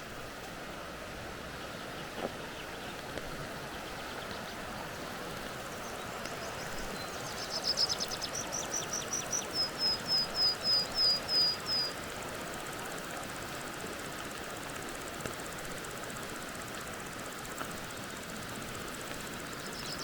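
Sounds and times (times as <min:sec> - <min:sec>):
water hissing in forest: 0:00.0 - 0:20.0.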